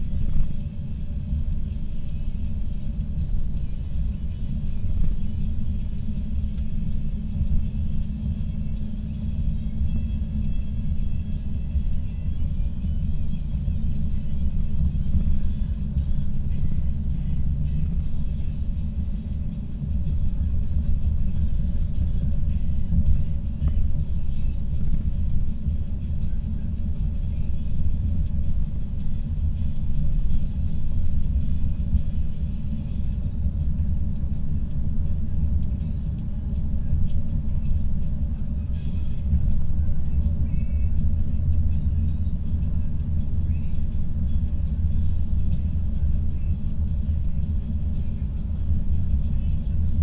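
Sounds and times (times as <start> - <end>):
car driving at highway speed: 0.0 - 50.0.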